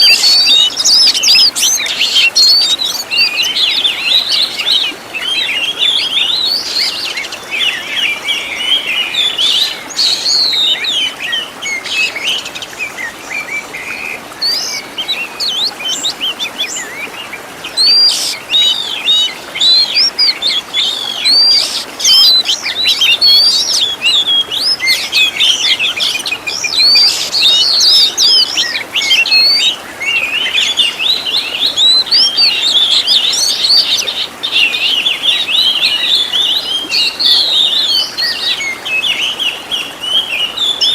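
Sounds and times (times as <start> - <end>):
songbird singing whistles and trills: 0.0 - 40.9.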